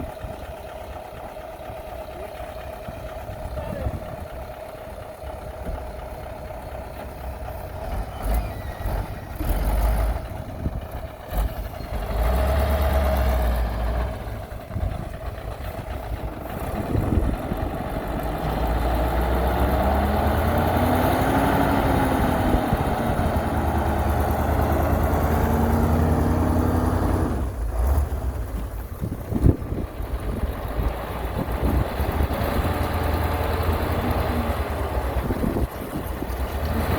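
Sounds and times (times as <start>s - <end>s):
heavy diesel engine revving: 0.0s - 36.9s.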